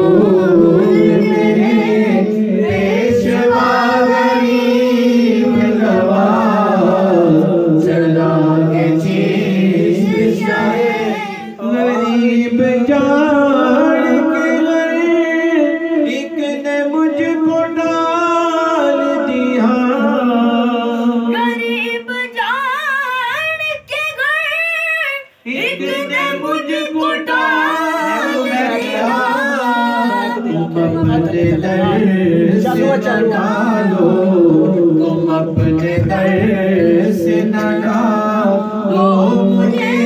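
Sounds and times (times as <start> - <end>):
man singing unaccompanied: 0.0 - 22.4, 25.5 - 40.0.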